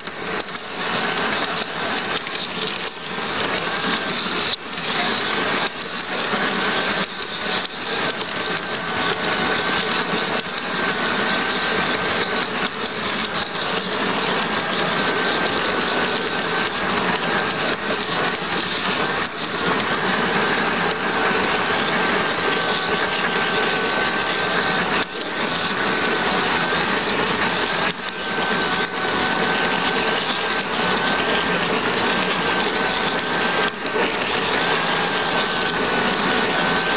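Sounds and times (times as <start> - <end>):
model locomotive rattling drone: 0.0 - 36.9.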